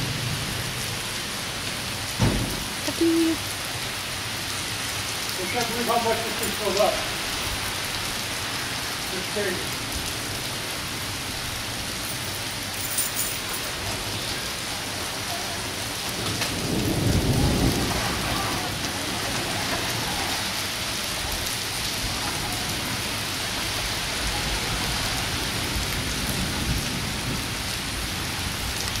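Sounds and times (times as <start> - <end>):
heavy rain on water and grass: 0.0 - 29.0.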